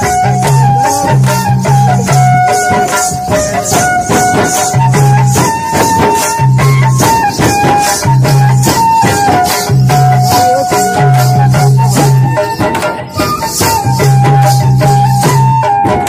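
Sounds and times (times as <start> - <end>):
sustained melody of held notes: 0.0 - 15.9
frame drums beaten by hand: 0.0 - 16.0.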